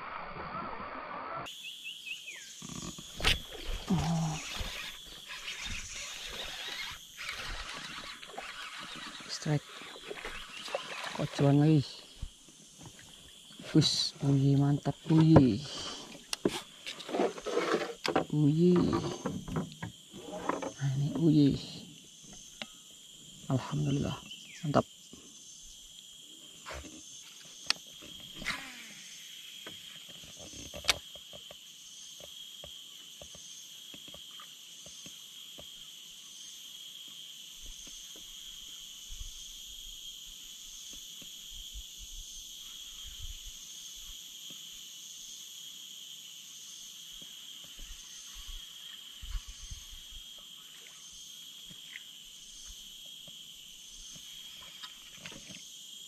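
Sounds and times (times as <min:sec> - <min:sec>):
insects shrilling: 0:00.0 - 0:56.0.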